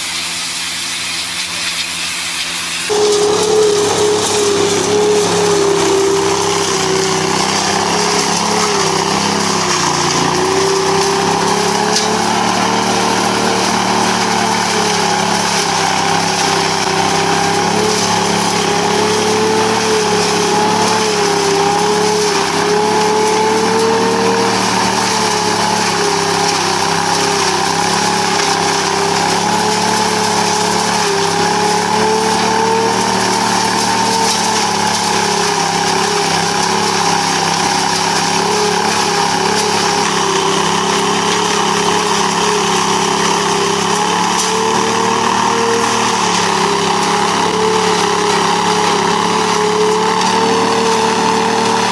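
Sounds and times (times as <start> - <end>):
leaf vacuum engine hum: 0.0 - 51.9
leaves sucked through hose: 0.0 - 51.9.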